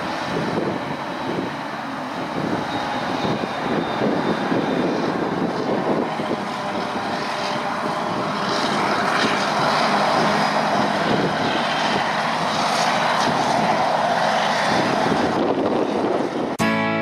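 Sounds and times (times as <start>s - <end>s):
forage harvester drone: 0.0s - 17.0s
tractor engine: 0.0s - 17.0s.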